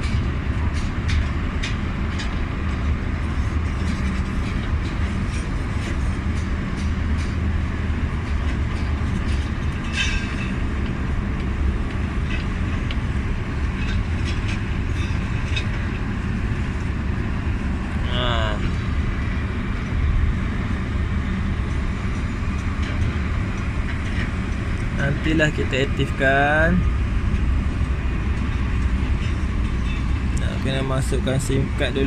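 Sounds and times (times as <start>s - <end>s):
low vehicle rumble: 0.0s - 32.0s.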